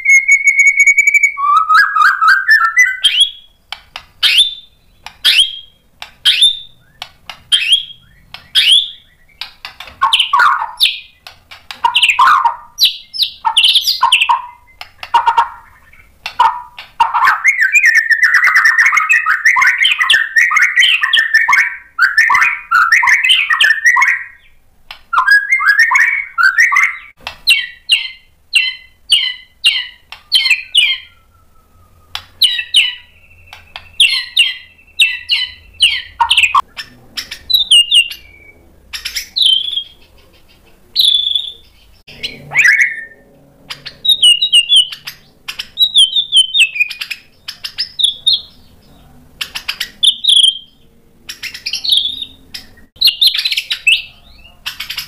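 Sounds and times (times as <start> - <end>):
bird singing whistled phrases: 0.0 - 3.6, 4.2 - 11.2, 11.8 - 40.1, 41.0 - 48.6, 49.7 - 55.0
bird rapid chattering: 0.0 - 31.3, 32.2 - 55.0.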